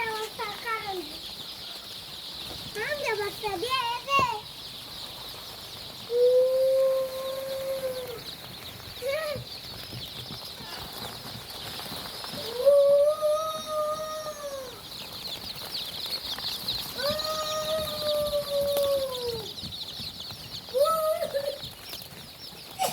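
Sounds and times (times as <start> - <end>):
chickens: 0.0 - 22.9
high-pitched chirping: 0.0 - 22.9.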